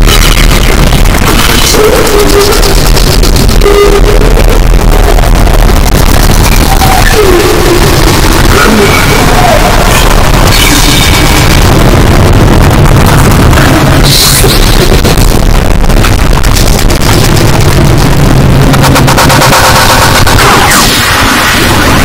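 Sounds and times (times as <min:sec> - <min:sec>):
wall of distorted noise: 0:00.0 - 0:22.0.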